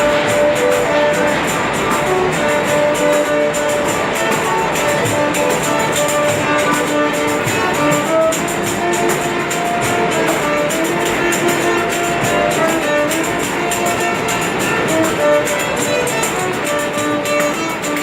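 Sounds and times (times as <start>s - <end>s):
held note melody: 0.0s - 18.0s
plucked guitar strings: 0.0s - 18.0s.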